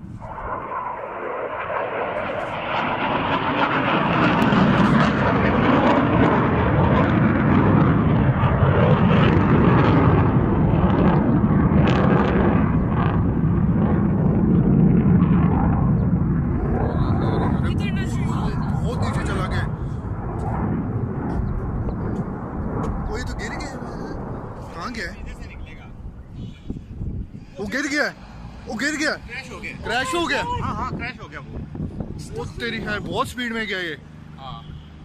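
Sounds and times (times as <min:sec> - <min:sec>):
jet aircraft roaring past: 0:00.0 - 0:35.0.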